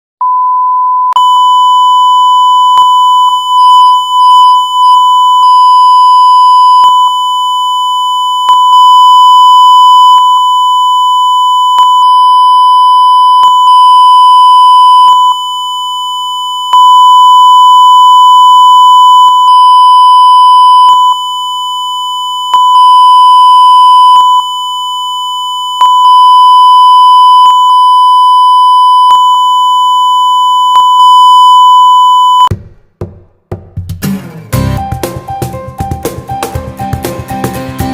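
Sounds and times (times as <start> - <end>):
high pure tone beep: 0.2 - 32.5.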